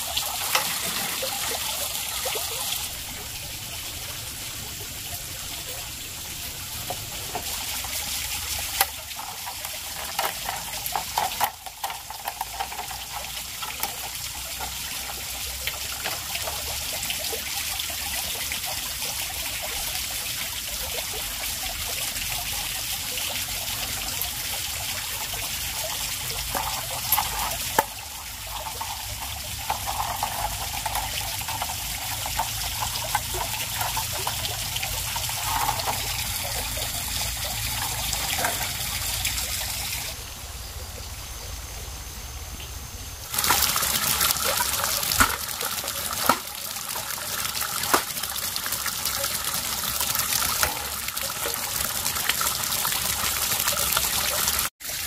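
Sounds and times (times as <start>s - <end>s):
flowing water: 0.0s - 41.9s, 42.9s - 55.0s.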